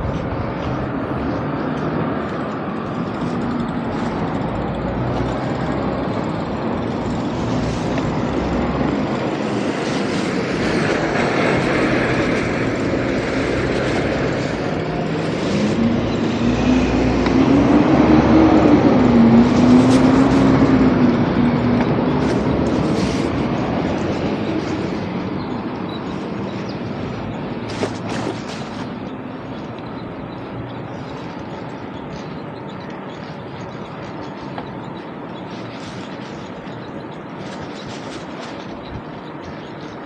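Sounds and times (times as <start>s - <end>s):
street traffic: 0.0s - 40.0s.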